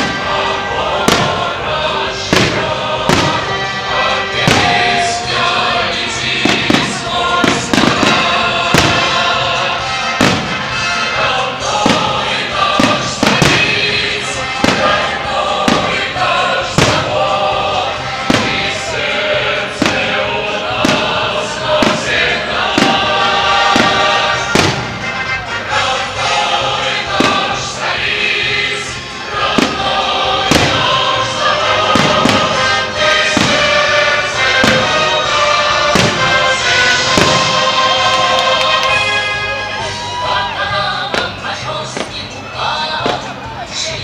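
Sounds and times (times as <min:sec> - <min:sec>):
fireworks banging: 0:00.0 - 0:40.0, 0:40.7 - 0:43.4
choral music: 0:00.0 - 0:44.0.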